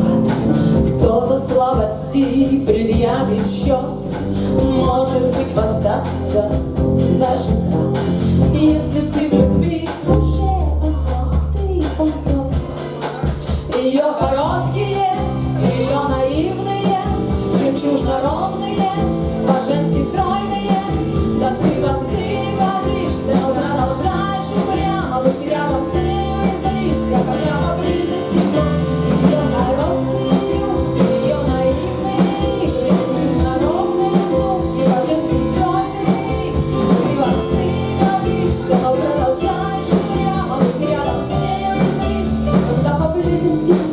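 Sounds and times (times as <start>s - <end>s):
person singing: 0.0s - 43.9s
rock band playing live: 0.0s - 43.9s
steady drum beat: 0.0s - 43.9s.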